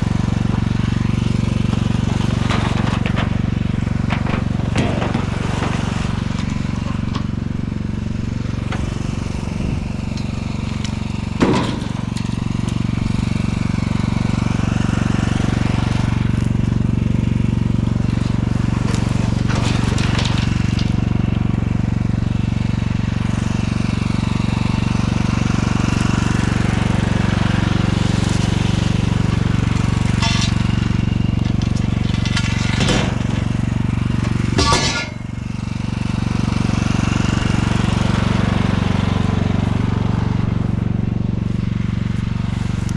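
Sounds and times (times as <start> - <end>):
tractor engine mowing: 0.0 - 42.9.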